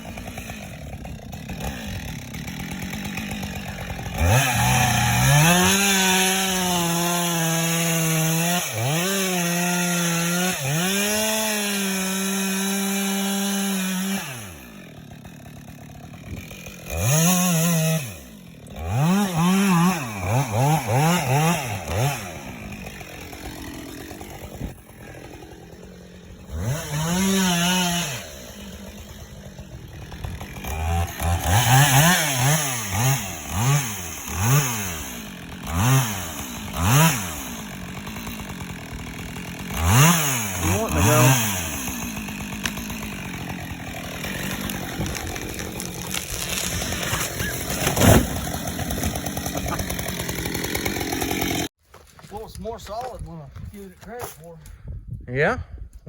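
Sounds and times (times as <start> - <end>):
chainsaw throttle blips: 0.0 - 51.7
chainsaw cutting wood: 0.0 - 52.2.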